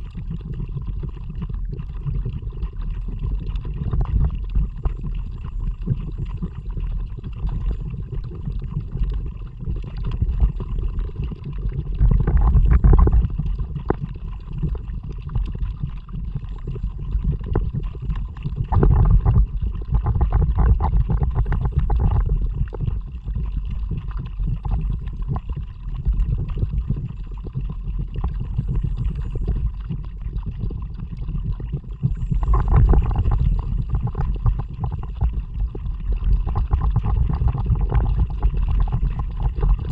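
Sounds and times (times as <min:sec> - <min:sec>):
steady low rumble: 0:02.9 - 0:39.9.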